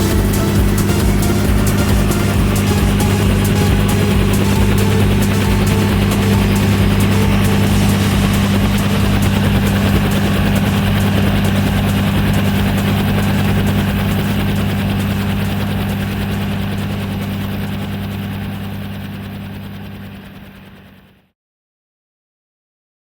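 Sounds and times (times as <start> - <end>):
helicopter rotor drone: 0.0 - 21.3.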